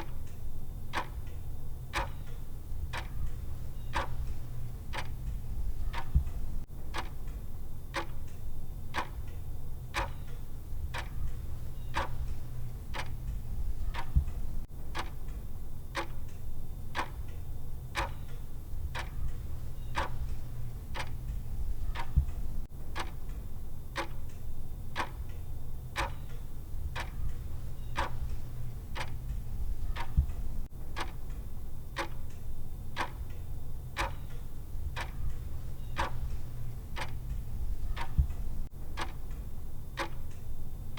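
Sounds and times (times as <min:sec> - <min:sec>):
clock ticking: 0:00.0 - 0:17.4, 0:18.0 - 0:40.5.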